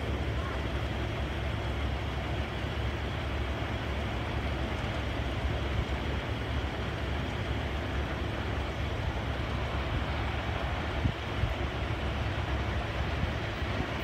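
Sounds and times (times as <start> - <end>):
train coach rumbling on track: 0.0 - 14.0.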